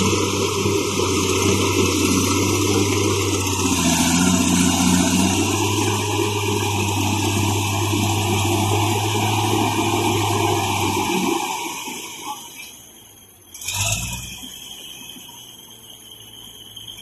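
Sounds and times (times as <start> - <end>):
heavy diesel engines running: 0.0 - 17.0.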